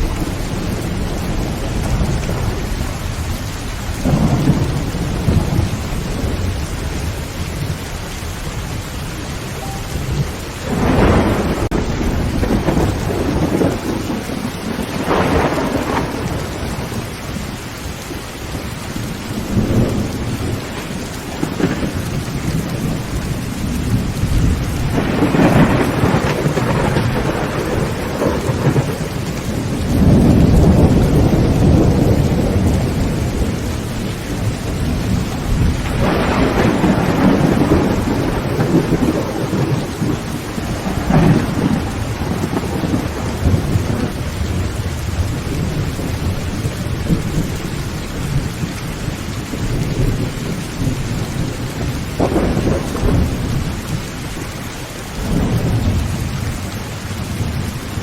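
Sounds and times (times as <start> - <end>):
heavy rain on a tin roof: 0.0 - 58.0
thunder rumbling: 0.0 - 58.0.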